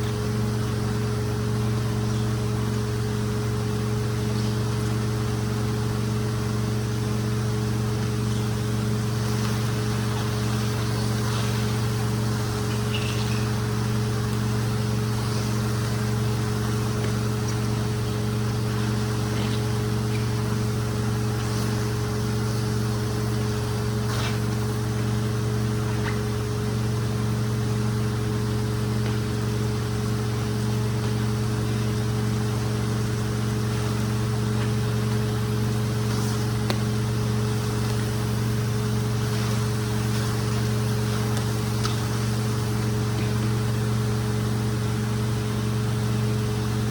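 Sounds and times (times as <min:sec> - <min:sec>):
motor hum: 0:00.0 - 0:46.9.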